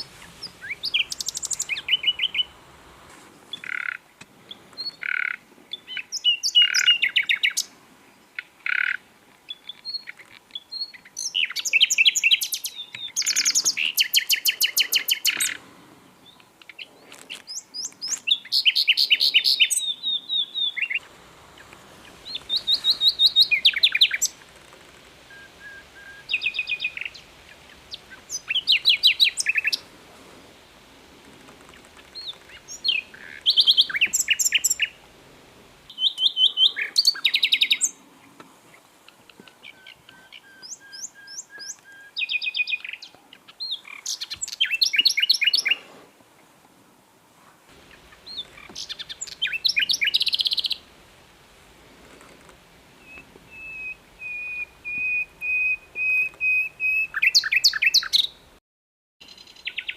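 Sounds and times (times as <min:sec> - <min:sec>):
nightingale singing: 0:00.0 - 0:02.8, 0:03.5 - 0:15.6, 0:16.2 - 0:29.9, 0:31.6 - 0:35.1, 0:35.9 - 0:38.0, 0:39.1 - 0:45.9, 0:47.8 - 0:50.9, 0:53.0 - 0:58.5, 0:59.2 - 0:59.9.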